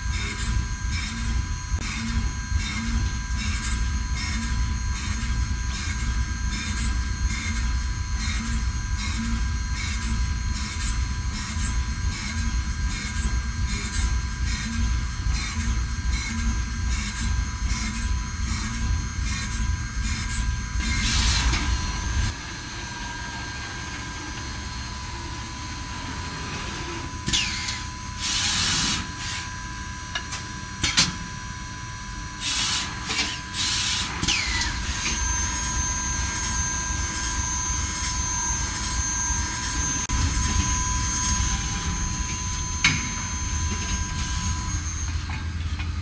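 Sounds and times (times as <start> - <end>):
machine whine: 0.0 - 46.0.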